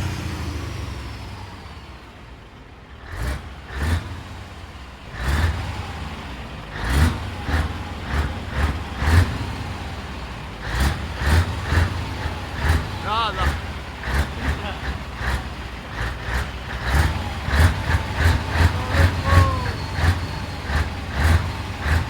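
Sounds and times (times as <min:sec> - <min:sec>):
diesel truck engine revving: 0:00.0 - 0:22.0.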